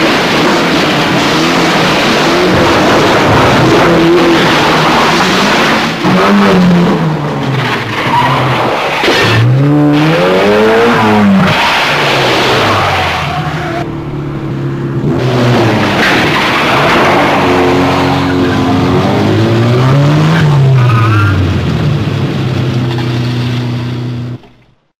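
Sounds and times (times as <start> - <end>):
car engines revving: 0.0 - 24.9
tyres squealing and skidding: 1.3 - 13.9, 15.2 - 21.7, 22.7 - 24.7.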